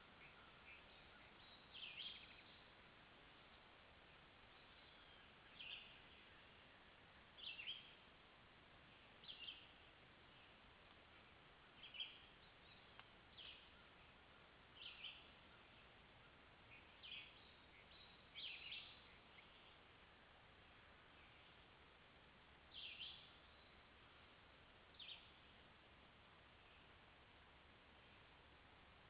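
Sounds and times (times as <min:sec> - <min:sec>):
faint bird song: 0:00.0 - 0:29.0
steady hiss: 0:00.0 - 0:29.0.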